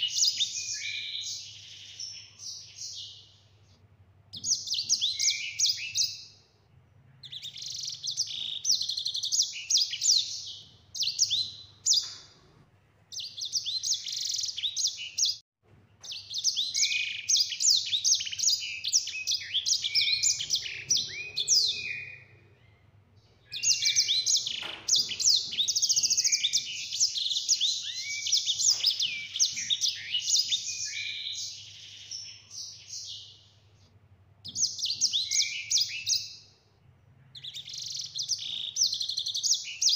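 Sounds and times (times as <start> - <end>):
finch singing trills: 0.0 - 3.4, 4.3 - 6.4, 7.2 - 12.4, 16.0 - 33.5, 34.4 - 36.6, 37.2 - 39.9.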